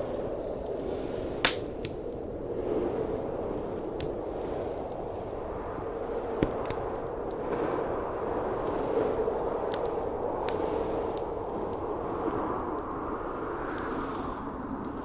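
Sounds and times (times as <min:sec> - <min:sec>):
blizzard wind rushing: 0:00.0 - 0:15.0
wood fire crackling and popping: 0:00.0 - 0:15.0.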